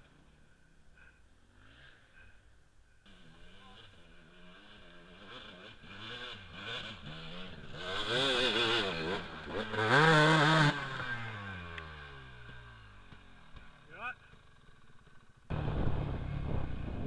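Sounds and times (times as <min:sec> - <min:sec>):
dirt bike engine revving: 0:01.4 - 0:02.4, 0:03.1 - 0:17.0.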